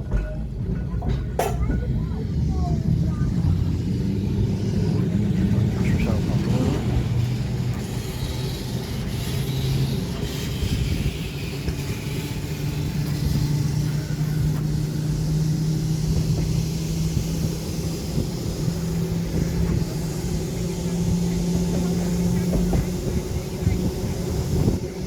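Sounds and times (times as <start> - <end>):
tram motor hum rising: 0.0 - 25.0
tram running rumble: 0.0 - 25.0.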